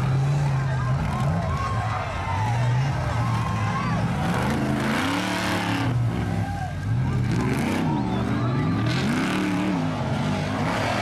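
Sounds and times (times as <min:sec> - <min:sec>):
engines revving in mud: 0:00.0 - 0:11.0.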